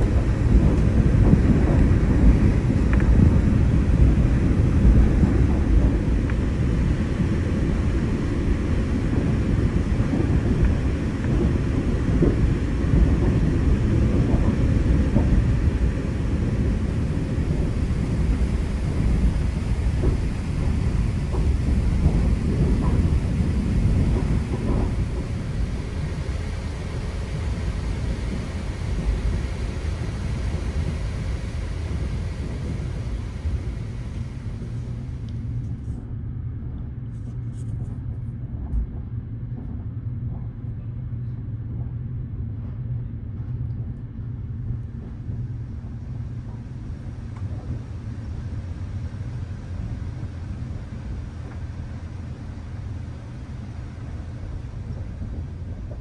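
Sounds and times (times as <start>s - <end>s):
train coach rumbling on track: 0.0s - 56.0s.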